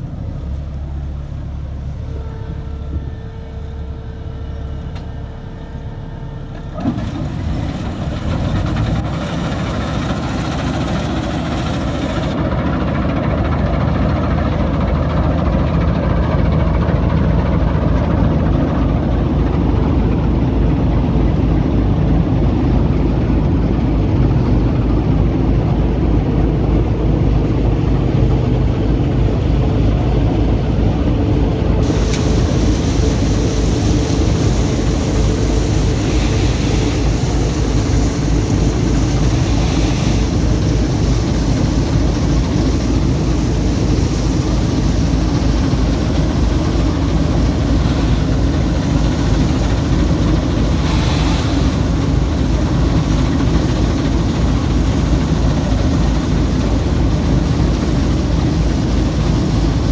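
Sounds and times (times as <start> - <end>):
low engine drone: 0.0 - 59.9
rushing mechanical noise: 0.0 - 59.9.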